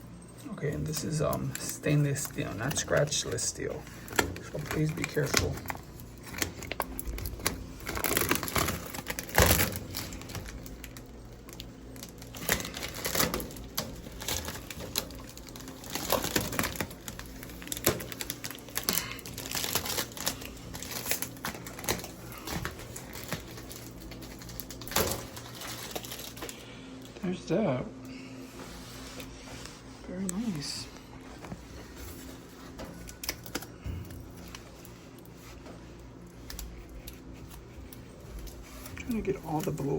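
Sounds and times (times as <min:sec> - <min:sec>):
plastic film peeling and crackling: 0:00.6 - 0:27.1, 0:28.6 - 0:39.9.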